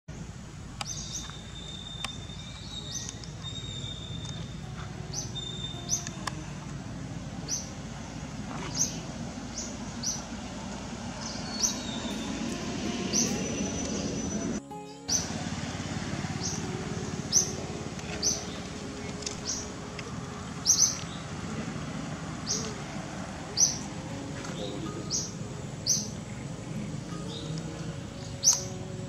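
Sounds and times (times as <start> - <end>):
birds chirping: 0.1 - 29.0
low background rumble: 0.1 - 29.0.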